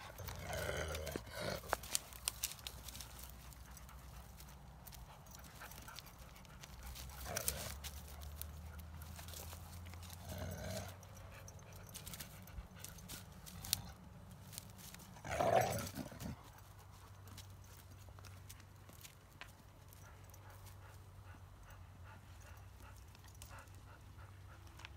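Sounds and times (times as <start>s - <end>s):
dogs scuffling: 0.0s - 20.8s.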